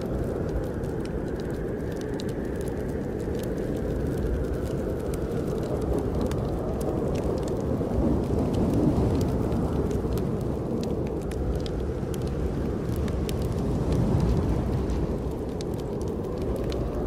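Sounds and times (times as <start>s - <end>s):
snowstorm wind roaring: 0.0s - 17.0s
wood fire crackling and popping: 0.0s - 17.0s.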